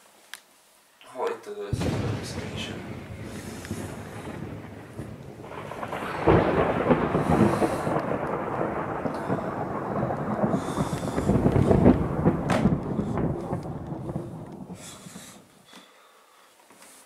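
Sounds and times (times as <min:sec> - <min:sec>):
loud thunder crack: 0:01.7 - 0:15.6
thunder rolling and rumbling: 0:01.7 - 0:15.7.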